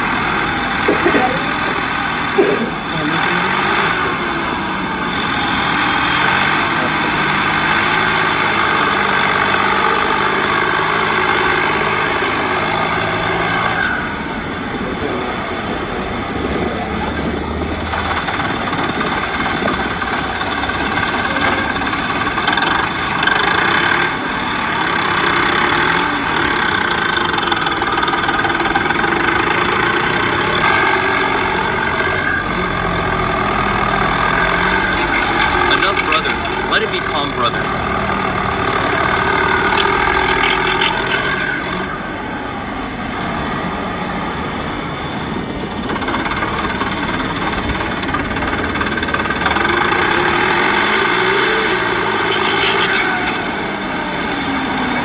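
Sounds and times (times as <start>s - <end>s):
heavy vehicle engine running: 0.0s - 55.0s.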